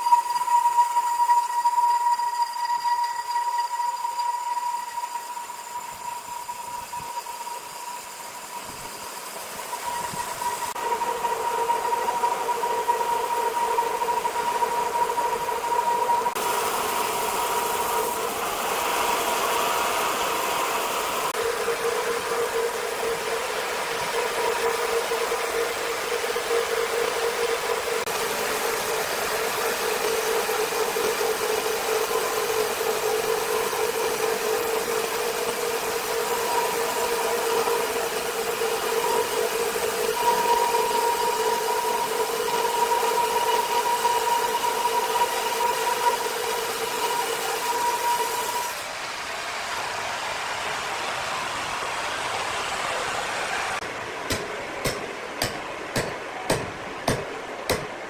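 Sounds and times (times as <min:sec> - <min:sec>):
band saw cutting log: 0:00.0 - 0:48.9, 0:53.8 - 0:58.0.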